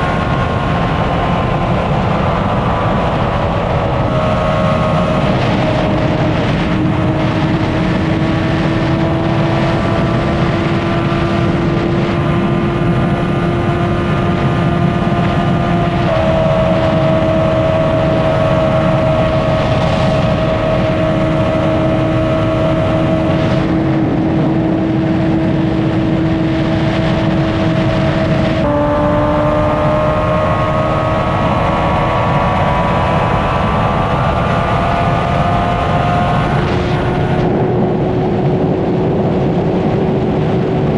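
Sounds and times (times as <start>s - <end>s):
gear changes: 0.0s - 40.9s
motorcycle engine accelerating: 0.0s - 40.9s
wind rushing: 0.0s - 40.9s.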